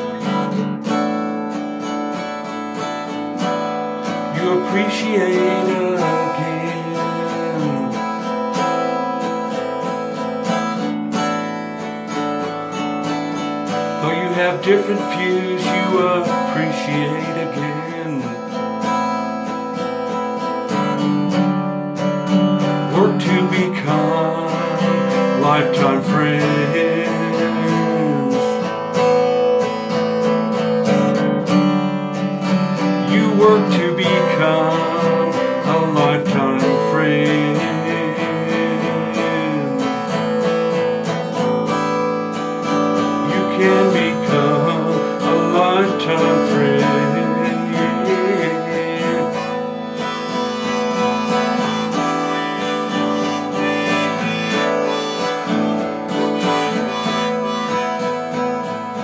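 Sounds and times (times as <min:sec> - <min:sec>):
acoustic guitar strumming: 0:00.0 - 0:59.0
harmonica melody: 0:00.0 - 0:59.0.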